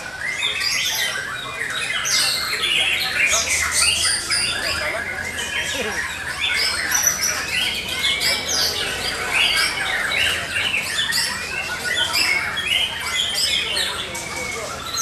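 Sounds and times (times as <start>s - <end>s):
birds singing whistled phrases: 0.0s - 15.0s.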